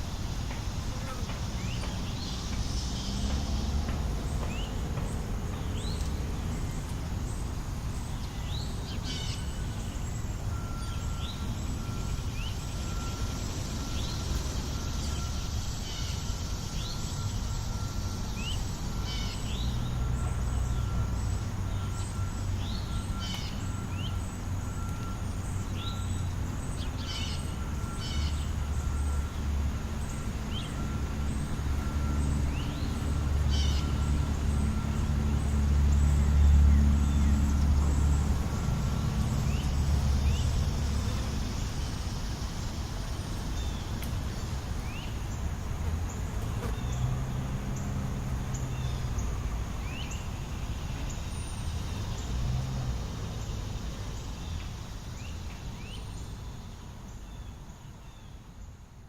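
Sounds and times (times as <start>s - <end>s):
distant traffic rumble: 0.0s - 59.0s
birds chirping: 0.4s - 52.6s.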